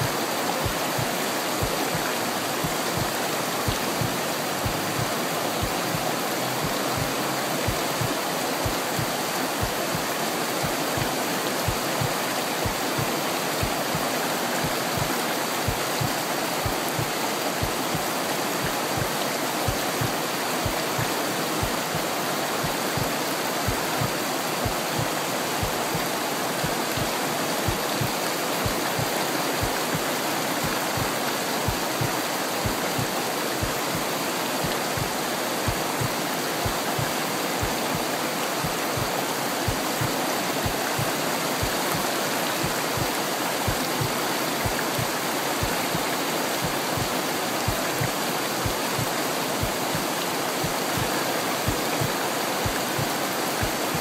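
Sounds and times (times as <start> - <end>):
stream splashing over boulders: 0.0 - 54.0.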